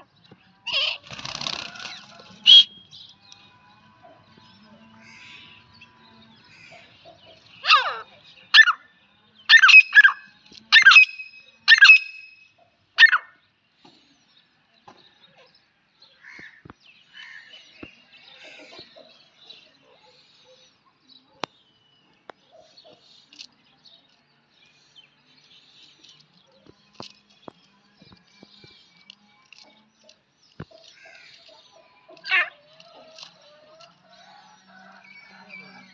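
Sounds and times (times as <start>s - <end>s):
harsh bird calls: 0.0s - 14.2s, 16.1s - 35.9s
faint high chirping: 0.0s - 35.9s.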